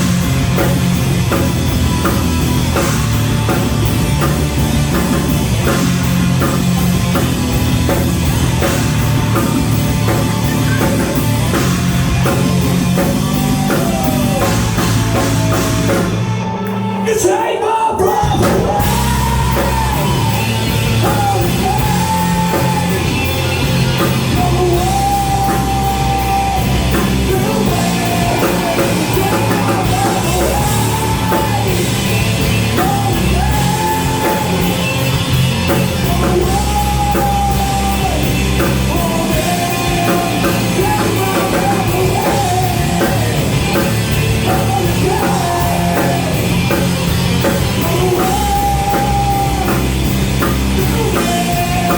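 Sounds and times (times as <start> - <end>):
rock band playing: 0.0 - 51.9
person singing and shouting: 10.0 - 51.9.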